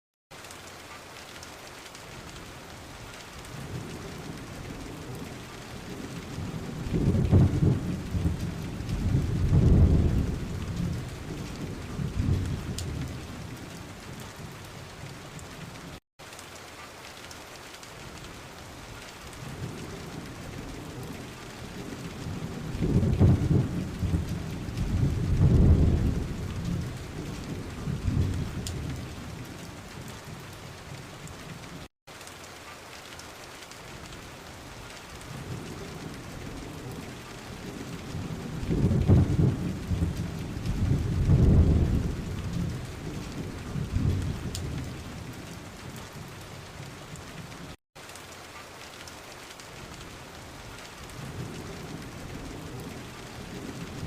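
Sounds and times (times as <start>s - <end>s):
steady rain falling: 0.3s - 54.0s.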